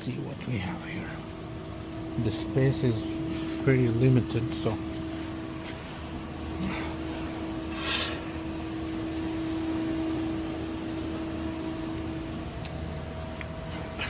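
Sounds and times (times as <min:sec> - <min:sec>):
refrigeration unit humming: 0:00.0 - 0:14.0.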